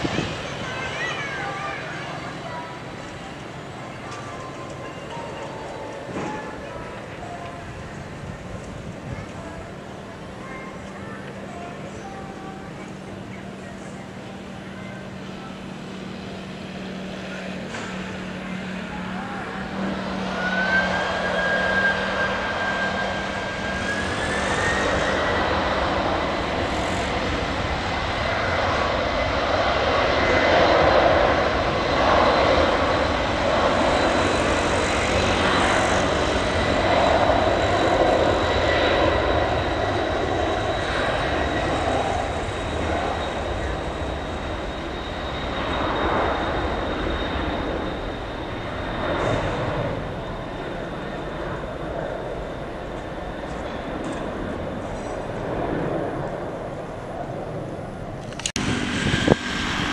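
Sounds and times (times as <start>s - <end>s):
jet engine turbine whine: 0.0s - 59.9s
rushing jet engine noise: 0.0s - 59.9s.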